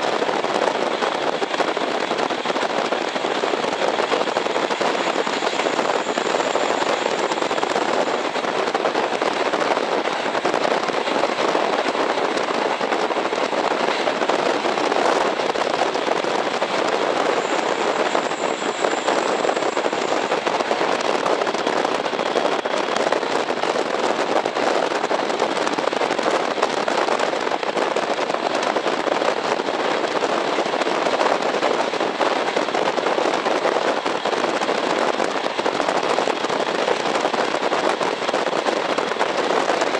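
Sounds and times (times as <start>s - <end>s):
diesel railcar running inside: 0.0s - 39.9s.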